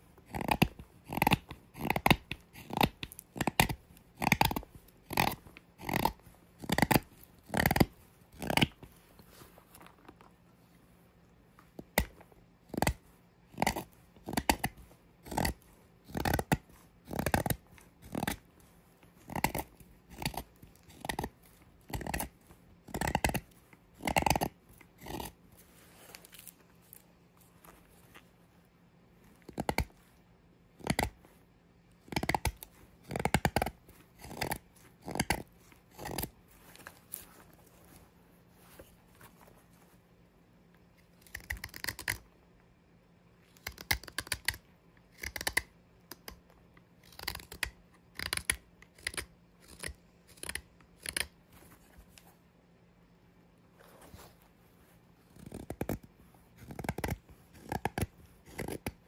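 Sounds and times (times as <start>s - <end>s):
knife carving wood: 0.0s - 10.3s, 11.6s - 28.3s, 29.2s - 38.0s, 40.9s - 42.4s, 43.4s - 52.3s, 55.1s - 59.0s.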